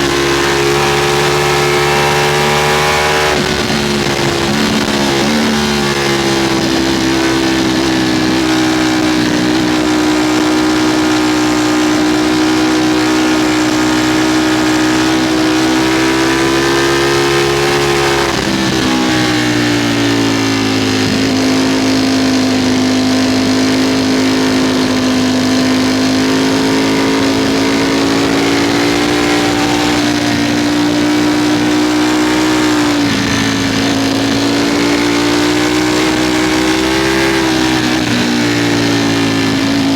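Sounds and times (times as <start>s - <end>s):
motorcycle engine at speed: 0.0s - 39.9s
wind noise on microphone: 0.0s - 39.9s.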